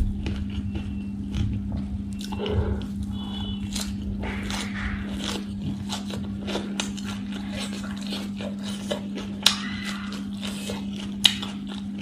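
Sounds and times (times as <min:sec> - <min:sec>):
crunchy chewing: 0:00.0 - 0:12.0
steady low hum: 0:00.0 - 0:12.0.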